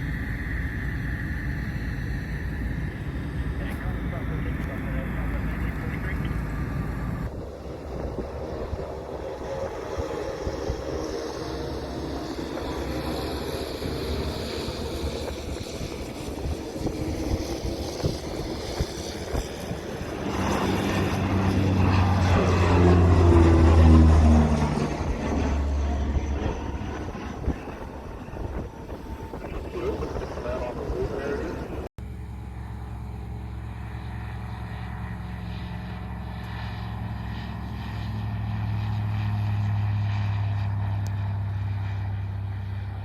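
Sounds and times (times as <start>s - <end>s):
aircraft engine drone: 0.0s - 43.0s
airport noise: 0.0s - 43.0s
wind: 0.0s - 43.0s.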